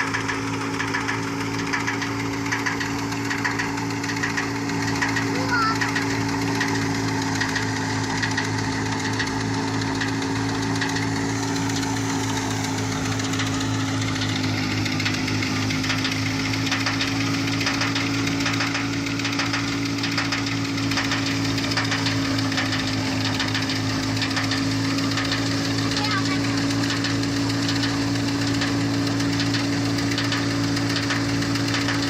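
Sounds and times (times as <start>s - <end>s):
threshing machine running: 0.0s - 32.0s.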